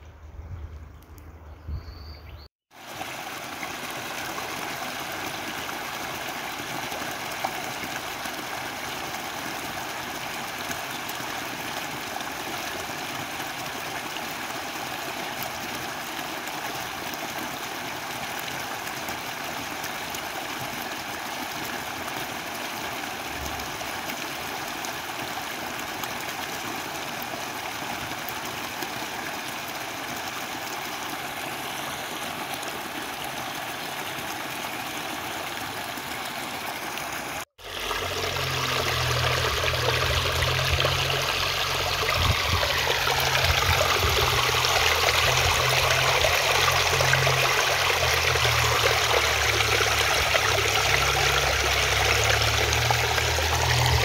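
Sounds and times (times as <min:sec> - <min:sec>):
stream flowing over stones: 0:02.7 - 0:54.0.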